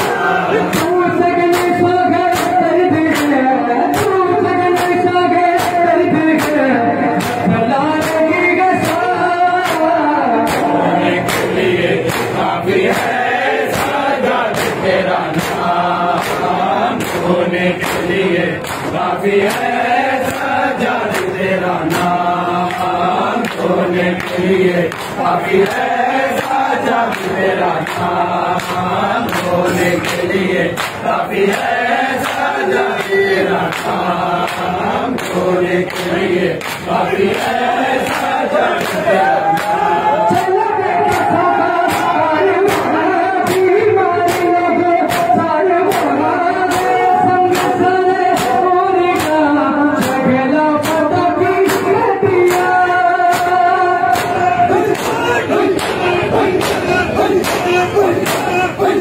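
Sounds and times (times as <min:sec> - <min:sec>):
hands slapping chests: 0:00.0 - 0:40.5, 0:41.1 - 0:49.4, 0:50.8 - 0:51.0, 0:51.6 - 0:59.0
crowd of men singing: 0:00.0 - 0:59.0.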